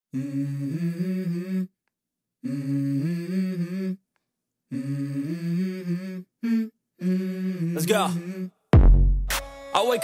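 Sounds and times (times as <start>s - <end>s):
hummed vocal melody: 0.1s - 9.7s.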